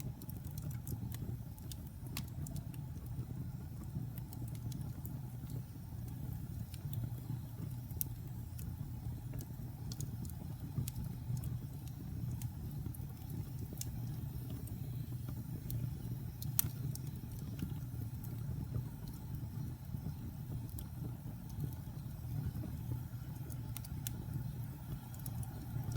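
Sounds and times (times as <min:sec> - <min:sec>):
fire crackles and pops: 0:00.0 - 0:25.9
fire flames rumbling: 0:00.0 - 0:25.9.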